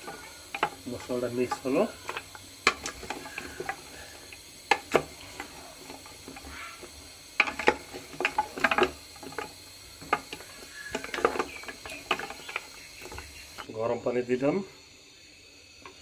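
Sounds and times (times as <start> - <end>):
bones knocking in metal pot: 0.0 - 13.7.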